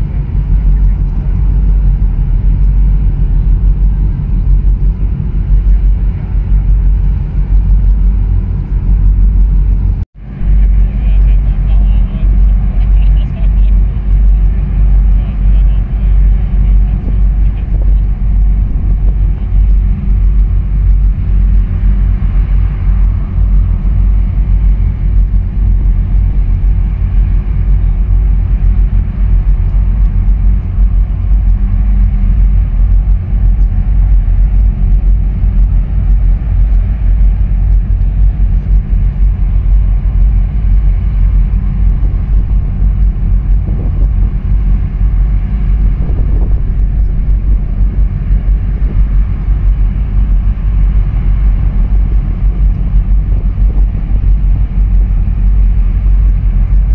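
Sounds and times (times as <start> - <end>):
faint steady hum: 0.0 - 56.9
wind buffeting microphone: 0.0 - 56.9.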